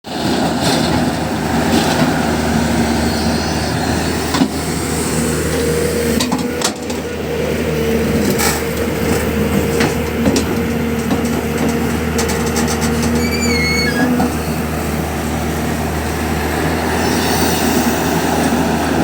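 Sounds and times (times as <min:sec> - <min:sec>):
heavy diesel engine running: 0:00.1 - 0:19.0.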